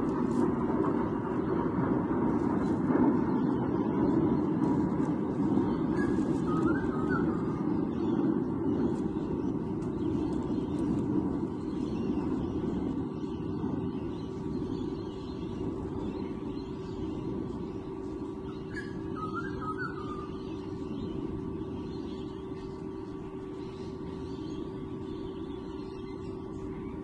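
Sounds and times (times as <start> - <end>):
faint constant hum: 0.0 - 27.0
low outdoor rumble: 0.0 - 27.0
bird calls: 2.5 - 27.0.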